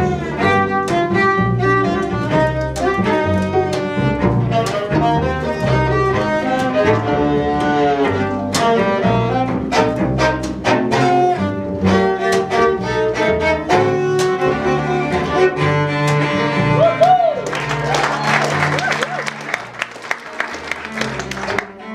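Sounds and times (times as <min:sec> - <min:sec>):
string quartet playing: 0:00.0 - 0:21.9.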